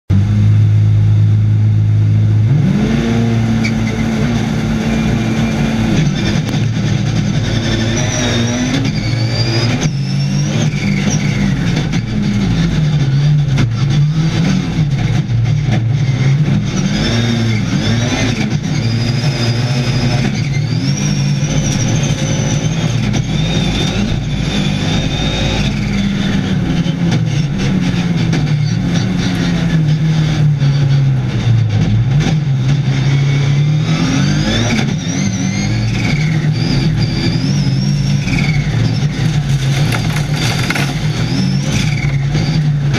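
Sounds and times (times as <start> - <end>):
race car engine revving: 0.1 - 42.9.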